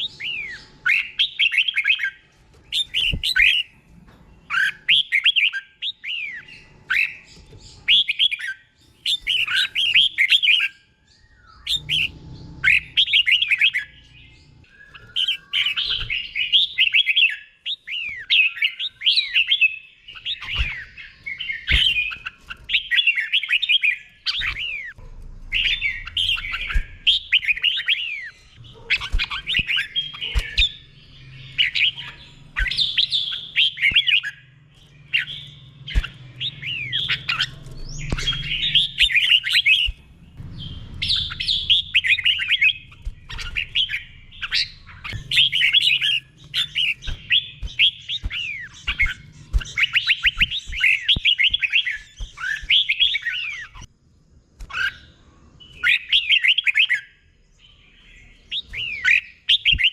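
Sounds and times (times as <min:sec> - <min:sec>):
bird singing whistled notes: 0:04.4 - 0:53.9, 0:54.7 - 0:59.9.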